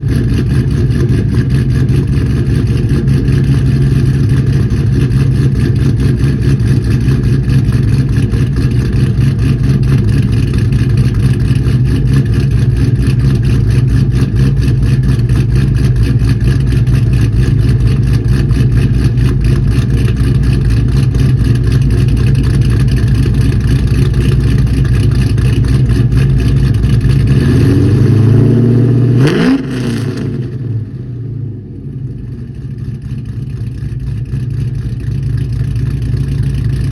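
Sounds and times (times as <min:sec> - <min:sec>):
car engine idling choppily: 0:00.0 - 0:28.2, 0:30.2 - 0:36.9
engine revving: 0:00.0 - 0:30.7.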